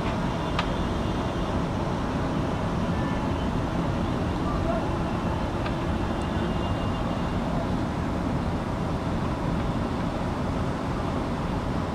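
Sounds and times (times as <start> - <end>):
distant city traffic rumble: 0.0 - 11.9.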